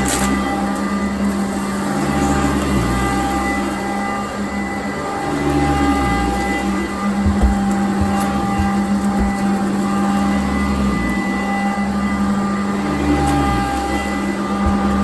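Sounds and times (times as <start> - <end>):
vacuum cleaner motor with brush roll: 0.0 - 15.0.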